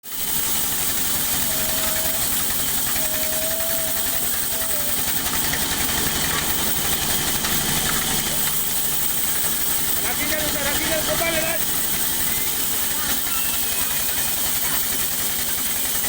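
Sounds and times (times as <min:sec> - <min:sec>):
sawmill machinery drone: 0:00.0 - 0:16.0.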